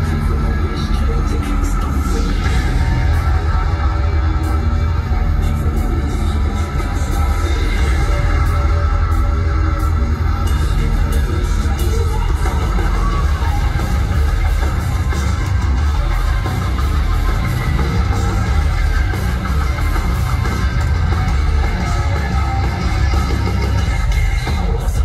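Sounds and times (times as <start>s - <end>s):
heavy metal band playing live: 0.0s - 25.0s.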